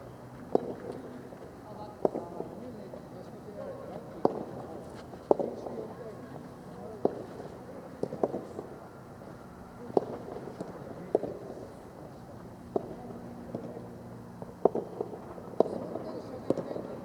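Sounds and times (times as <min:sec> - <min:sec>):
low background murmur: 0:00.0 - 0:17.0.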